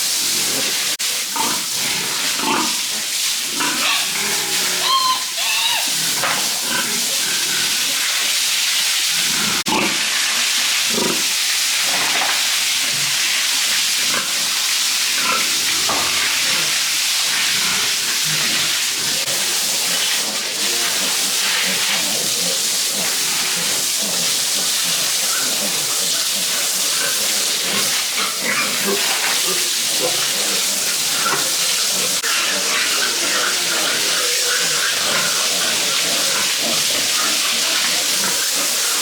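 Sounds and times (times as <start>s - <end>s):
pigs grunting: 0.3s - 8.1s, 10.9s - 11.3s, 15.2s - 39.0s.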